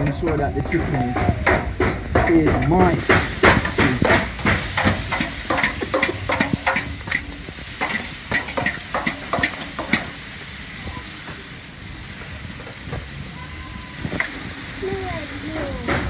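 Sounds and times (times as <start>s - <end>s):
chicken frying hiss: 0.0s - 16.0s.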